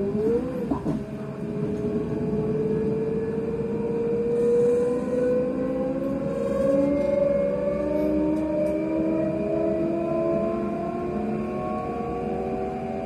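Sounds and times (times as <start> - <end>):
electric train motor whine: 0.0 - 13.0.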